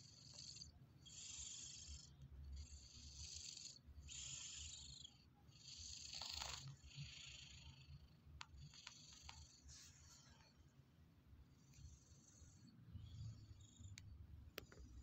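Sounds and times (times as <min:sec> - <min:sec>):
cat snoring: 0:00.0 - 0:10.6, 0:11.4 - 0:15.0.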